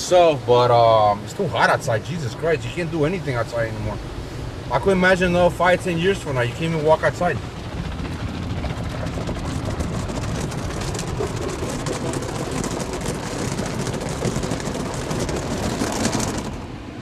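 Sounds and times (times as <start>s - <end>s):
water spraying on car: 0.0s - 17.0s
low machine rumble: 2.0s - 17.0s.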